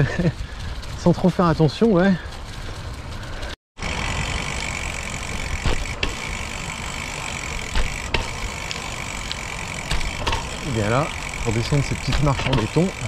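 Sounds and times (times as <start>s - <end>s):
bike tyre rumble: 0.0s - 13.0s.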